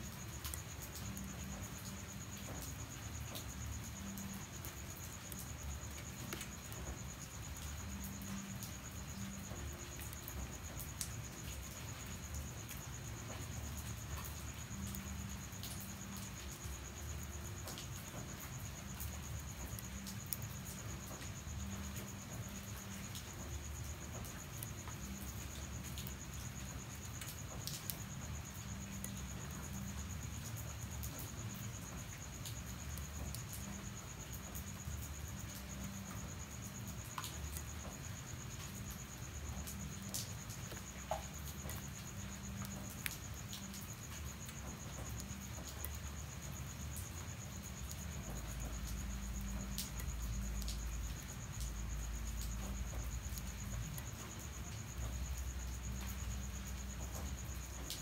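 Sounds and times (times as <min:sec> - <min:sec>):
crickets chirring: 0:00.0 - 0:58.0
rain dripping and pattering: 0:00.0 - 0:58.0.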